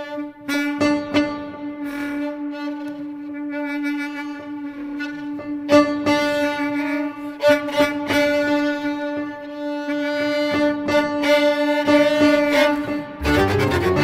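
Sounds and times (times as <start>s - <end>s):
chamber music for clarinet violin piano: 0.0s - 14.0s.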